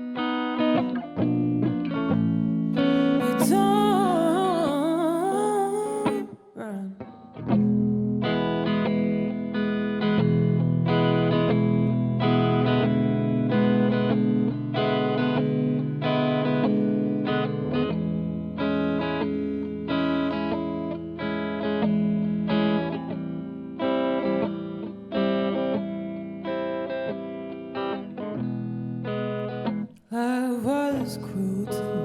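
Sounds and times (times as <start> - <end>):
picked guitar chords with effects: 0.0 - 32.0.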